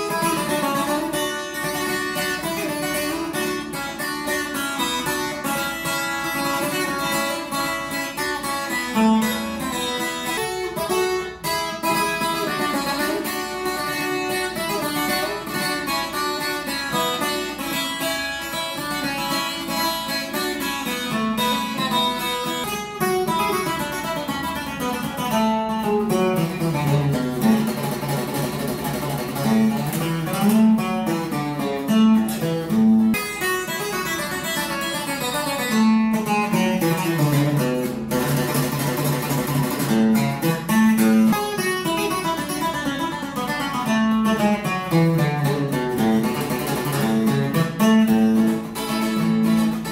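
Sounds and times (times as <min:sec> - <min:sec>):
acoustic guitar picked melody: 0:00.0 - 0:49.9.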